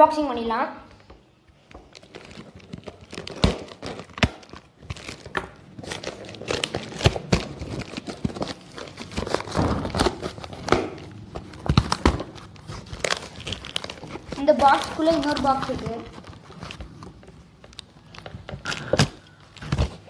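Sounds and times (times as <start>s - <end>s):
cardboard crinkling and tearing: 1.8s - 20.0s.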